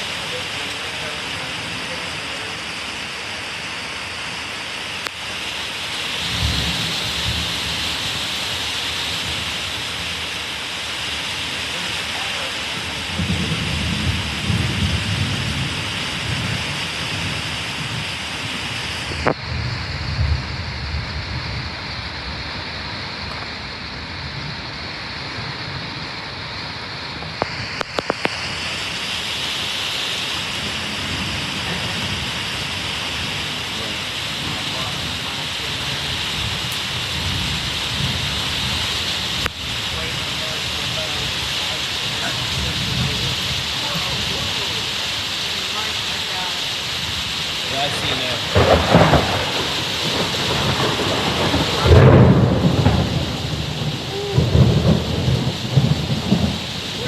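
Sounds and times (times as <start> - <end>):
heavy rain pouring: 0.0 - 57.0
thunder rumbling: 5.1 - 29.5, 30.1 - 57.0.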